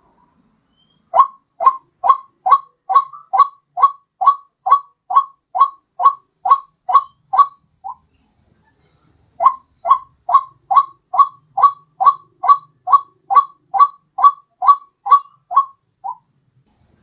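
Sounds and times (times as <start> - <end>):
bird calling short repeated notes: 0.7 - 8.2, 9.4 - 16.2.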